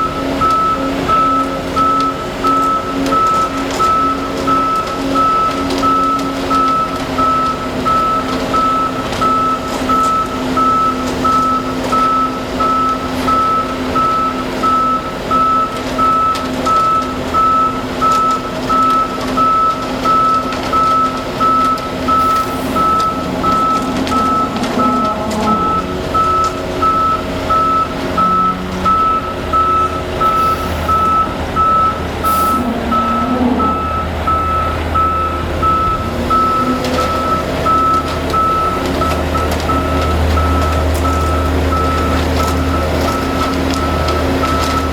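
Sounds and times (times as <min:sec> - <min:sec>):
diesel engine running: 0:00.0 - 0:44.9
truck reversing alarm beeping: 0:00.0 - 0:44.9.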